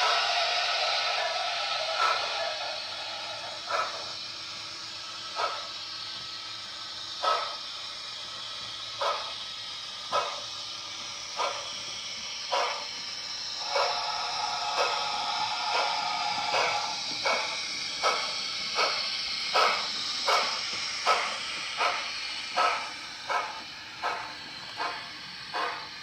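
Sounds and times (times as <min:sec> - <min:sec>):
steady steam hiss: 0:00.0 - 0:26.0
steam locomotive exhaust chuffs: 0:00.0 - 0:26.0.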